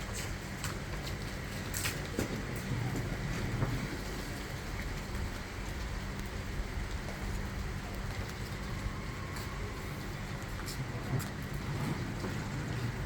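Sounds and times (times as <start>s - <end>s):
steady rain falling: 0.1s - 13.0s.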